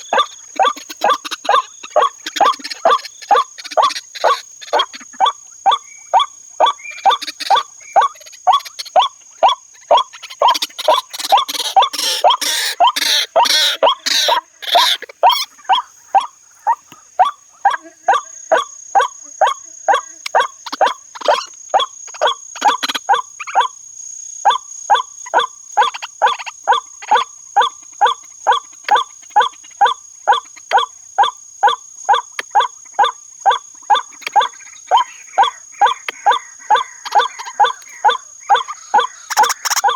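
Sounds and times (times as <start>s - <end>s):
bird harsh kwak calls: 0.0s - 23.8s, 24.5s - 39.9s.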